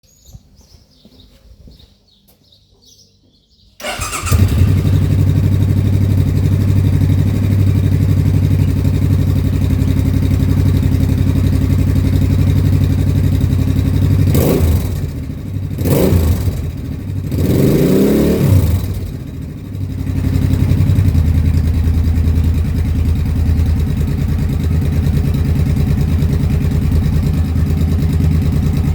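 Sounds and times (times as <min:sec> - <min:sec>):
motorcycle engine revving: 0:03.8 - 0:28.9
motorcycle engine starting and idling: 0:03.8 - 0:28.9.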